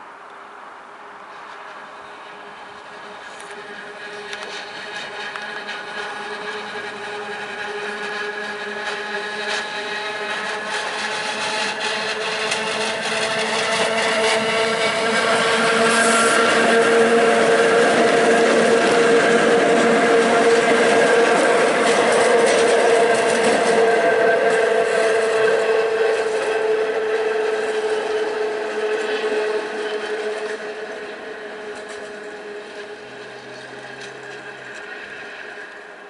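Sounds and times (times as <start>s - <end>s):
train wheels rumbling: 1.1s - 36.0s
electric train motor whine: 1.3s - 36.0s.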